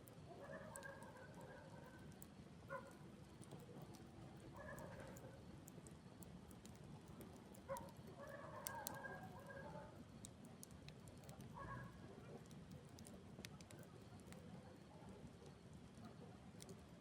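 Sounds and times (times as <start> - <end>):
campfire crackling and popping: 0.1 - 2.3, 3.1 - 9.3, 10.0 - 14.8, 15.4 - 17.0.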